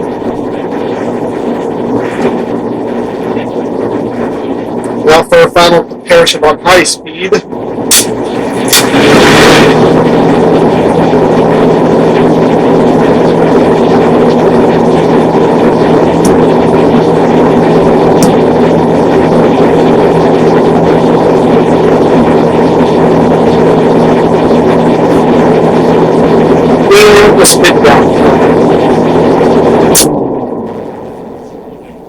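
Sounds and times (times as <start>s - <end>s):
fan blades whooshing air: 0.0s - 32.0s
low motor hum: 0.0s - 32.0s.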